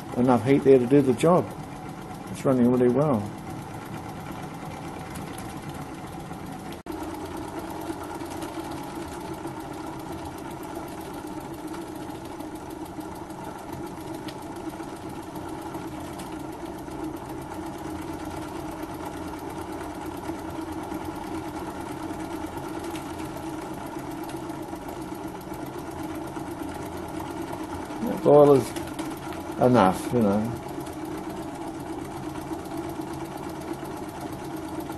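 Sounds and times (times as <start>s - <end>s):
model steam engine running: 0.0s - 34.9s.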